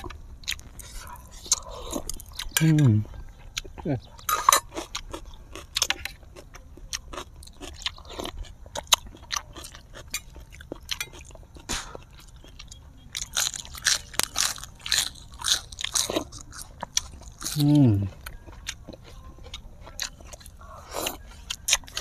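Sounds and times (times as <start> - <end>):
crunchy food chewing: 0.0 - 22.0.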